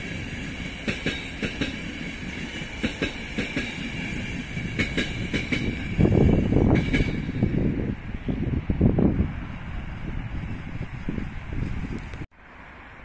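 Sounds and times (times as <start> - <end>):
train coaches rolling by: 0.0 - 13.0.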